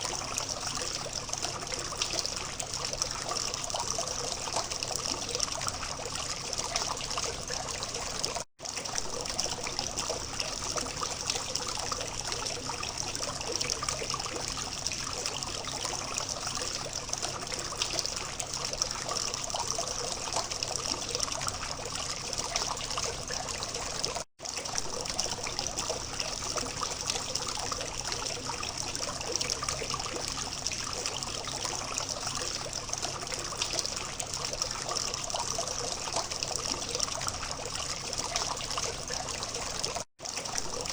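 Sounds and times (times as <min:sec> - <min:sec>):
water fountain trickling: 0:00.0 - 0:40.9.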